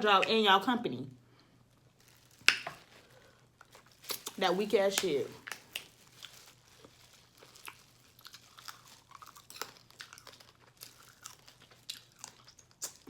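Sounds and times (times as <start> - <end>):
person chewing and crunching food: 1.7 - 13.0.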